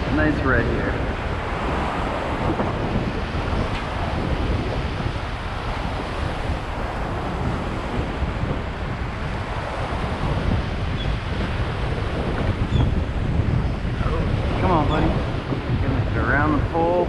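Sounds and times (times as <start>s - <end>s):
waves washing: 0.0s - 17.0s
wind buffeting microphone: 0.0s - 17.0s.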